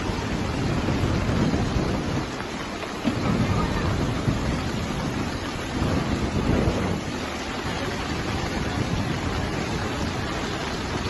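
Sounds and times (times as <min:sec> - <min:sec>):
rushing water: 0:00.0 - 0:11.0
stormy wind: 0:00.0 - 0:11.0.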